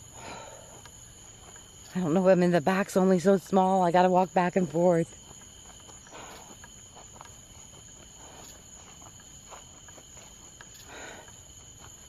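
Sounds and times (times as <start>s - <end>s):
crickets chirring: 0.0s - 12.0s
footsteps in grass: 0.0s - 12.0s.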